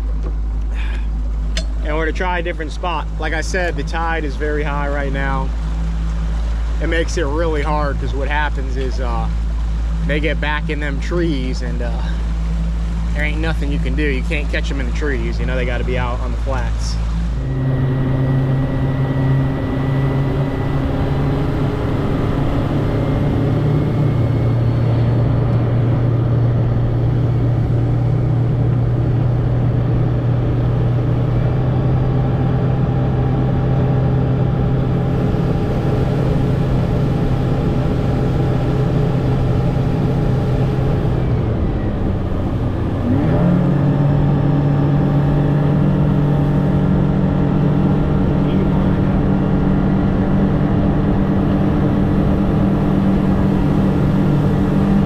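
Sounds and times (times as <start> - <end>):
boat motor running: 0.0 - 55.0.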